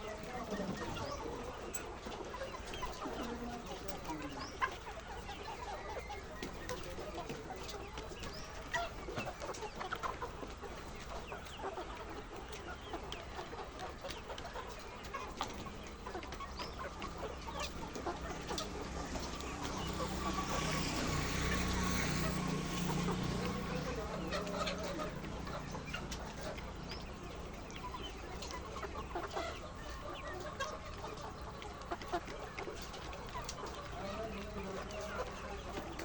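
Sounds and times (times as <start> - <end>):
hens clucking: 0.0 - 36.0.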